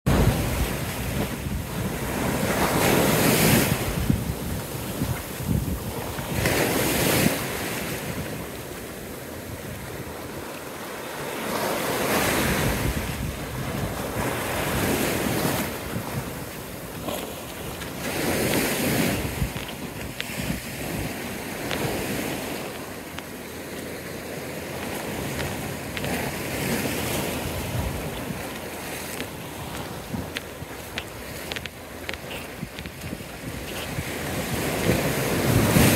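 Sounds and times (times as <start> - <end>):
ocean waves washing over rocks: 0.1 - 35.9.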